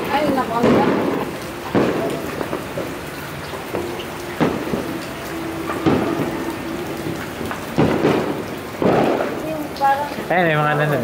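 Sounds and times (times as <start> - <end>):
distant firework bangs: 0.0 - 3.0, 3.7 - 9.7
steady rain: 0.0 - 11.0.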